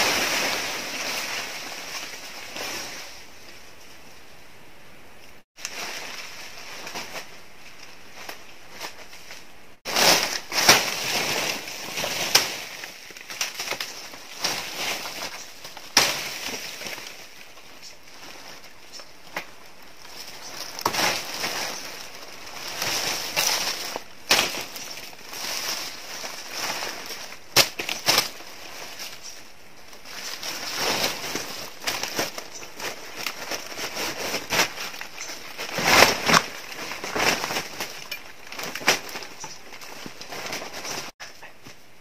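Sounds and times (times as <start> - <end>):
dry leaves crackling and rustling: 0.0 - 3.9, 5.6 - 41.5.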